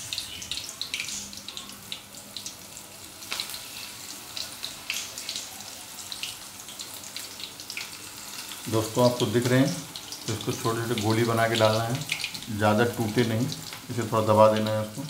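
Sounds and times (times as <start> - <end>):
batter deep-frying in oil: 0.0 - 15.0.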